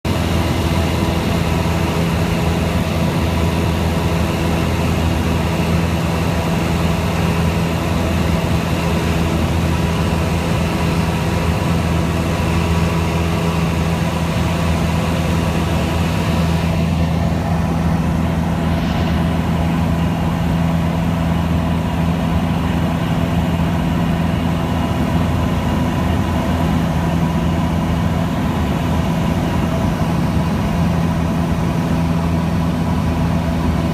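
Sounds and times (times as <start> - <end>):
light aircraft engine droning: 0.1 - 33.9.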